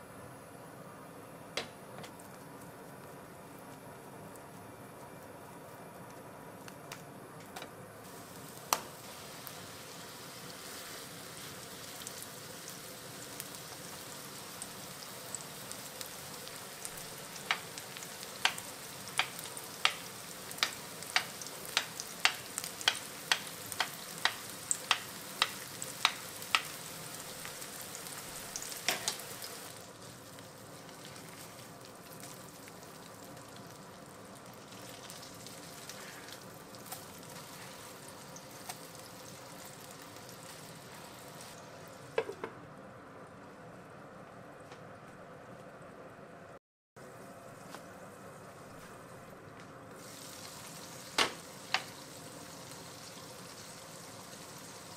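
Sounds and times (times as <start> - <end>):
patties sizzling in oil: 1.7 - 42.5, 47.0 - 54.9.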